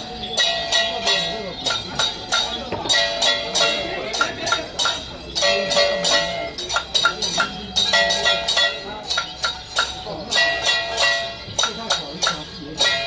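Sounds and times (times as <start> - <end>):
gongs and cymbals struck: 0.0 - 13.0.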